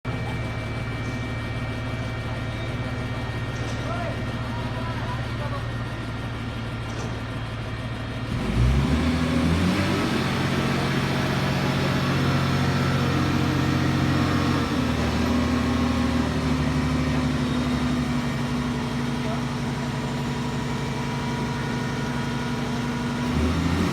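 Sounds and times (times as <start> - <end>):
crane engine revving: 0.5 - 23.9.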